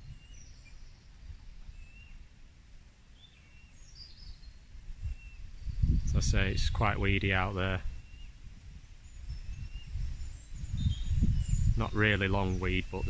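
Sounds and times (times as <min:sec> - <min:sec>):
faint bird chirps: 0:00.0 - 0:02.3, 0:03.1 - 0:06.3, 0:07.8 - 0:13.0
wind rumbling on microphone: 0:00.0 - 0:13.0.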